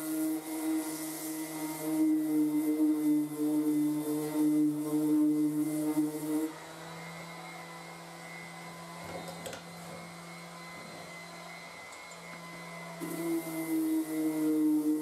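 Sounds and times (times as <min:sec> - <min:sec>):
orbital sander humming: 0:00.0 - 0:15.0.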